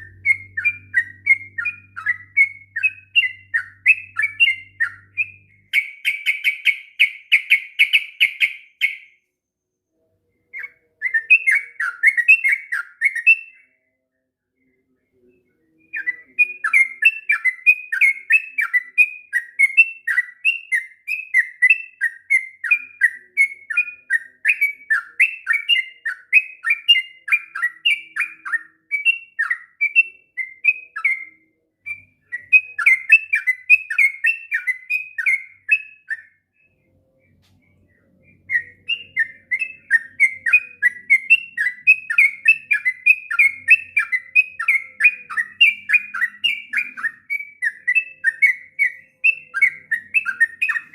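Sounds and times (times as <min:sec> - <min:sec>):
bird singing fast chirps: 0:00.0 - 0:09.2, 0:10.6 - 0:13.7, 0:15.9 - 0:36.9, 0:37.9 - 0:50.9.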